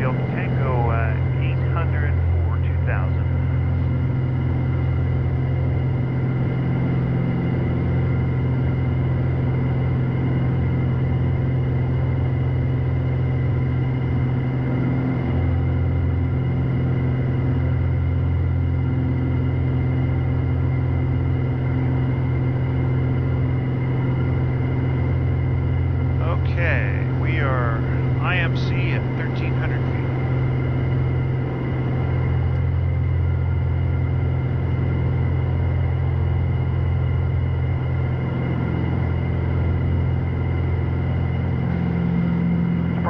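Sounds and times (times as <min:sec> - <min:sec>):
aircraft engine and propeller drone: 0:00.0 - 0:43.0.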